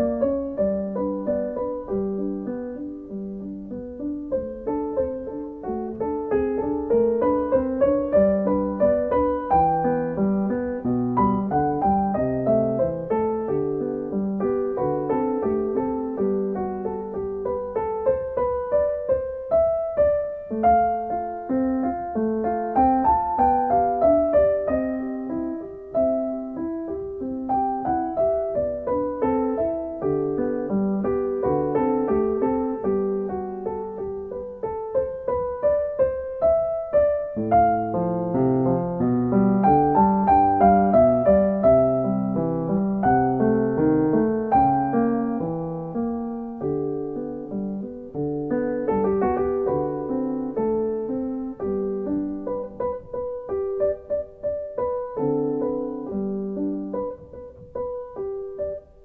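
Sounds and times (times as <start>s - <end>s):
electric piano melody: 0.0s - 59.0s.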